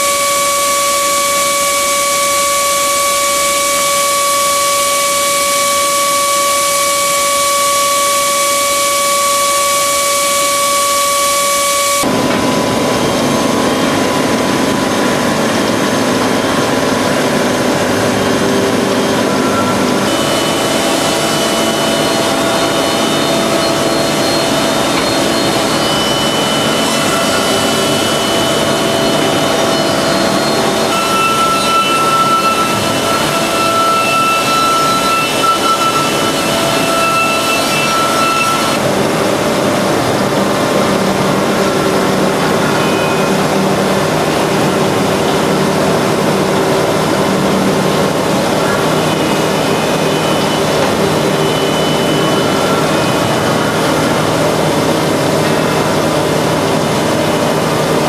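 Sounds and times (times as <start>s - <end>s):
machine milling metal: 0.0s - 58.0s
whining tones: 0.0s - 58.0s.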